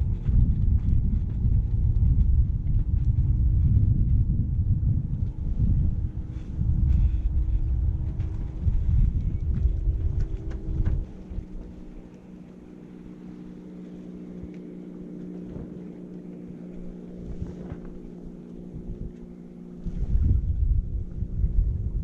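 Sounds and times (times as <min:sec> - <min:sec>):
steady low hum: 0:00.0 - 0:22.0
wind buffeting microphone: 0:00.0 - 0:22.0.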